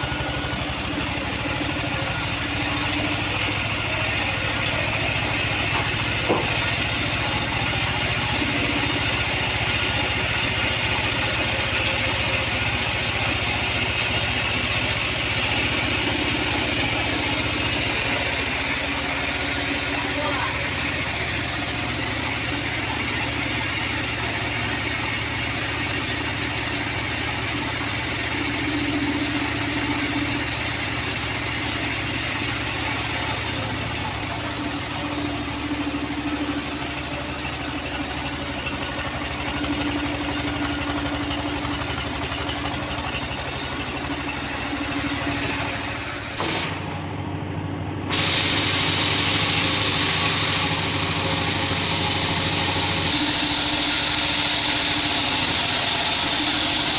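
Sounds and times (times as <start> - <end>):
bandsaw sawmill engine running: 0.0 - 56.9.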